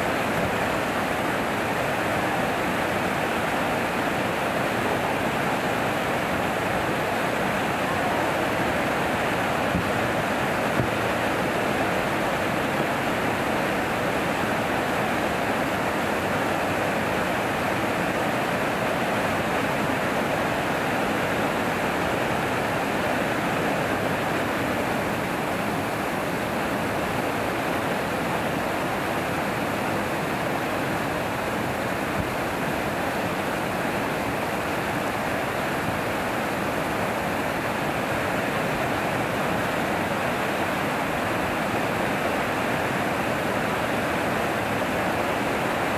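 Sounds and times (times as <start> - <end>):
water rushing over a weir: 0.0 - 45.9.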